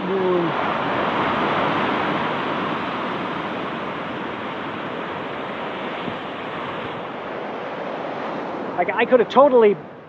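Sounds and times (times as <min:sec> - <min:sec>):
ocean surf washing on shore: 0:00.0 - 0:10.0
wind rumbling on microphone: 0:00.0 - 0:10.0.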